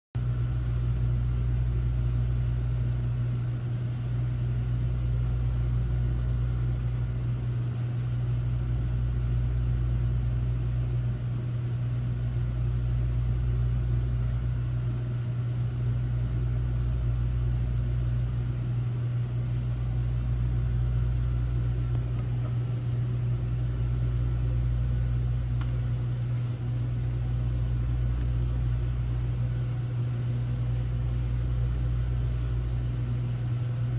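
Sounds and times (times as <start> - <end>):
air conditioner humming: 0.2 - 33.9.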